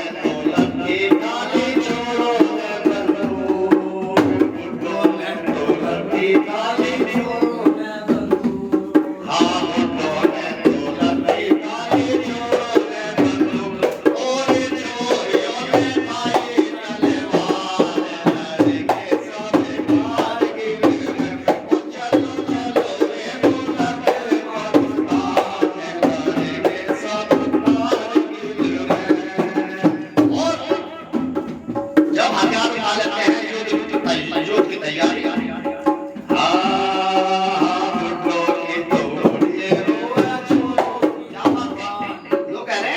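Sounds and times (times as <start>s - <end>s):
rhythmic drumming: 0.0s - 42.9s.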